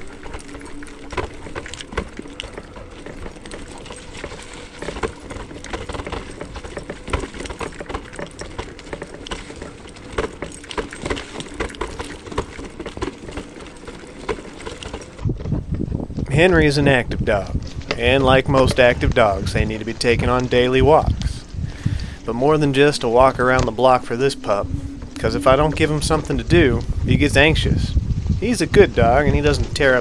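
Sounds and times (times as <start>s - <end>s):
faint steady whine: 0.0s - 30.0s
low rumble: 0.0s - 30.0s.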